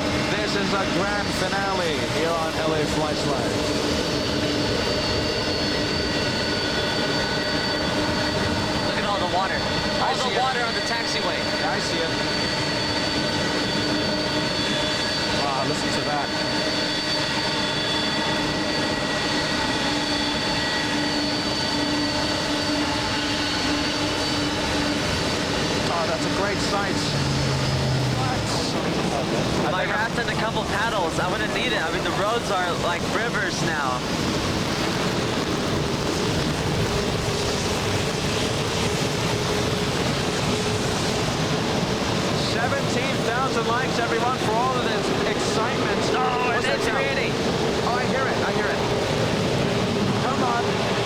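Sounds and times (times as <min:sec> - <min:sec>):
constant rush of noise: 0:00.0 - 0:51.0
jet engine whine: 0:00.0 - 0:51.0
storm wind: 0:00.0 - 0:51.0.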